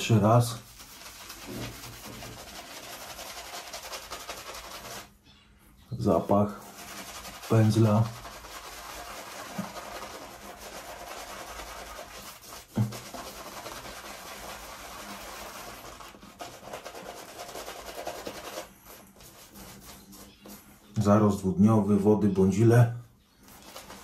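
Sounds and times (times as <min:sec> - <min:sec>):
shaving brush rubbing lather: 0:00.0 - 0:05.1, 0:06.0 - 0:20.9, 0:23.4 - 0:24.0.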